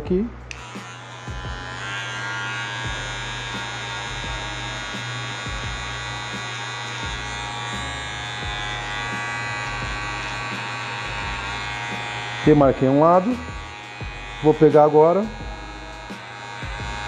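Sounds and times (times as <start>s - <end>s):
electric hair trimmer buzzing: 0.4s - 17.0s.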